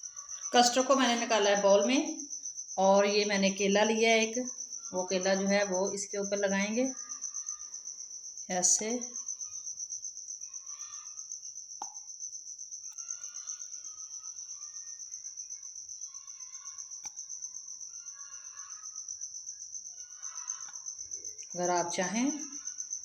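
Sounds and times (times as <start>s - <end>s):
faint broken insect calls: 0.0s - 23.0s
insect trilling: 0.0s - 23.0s.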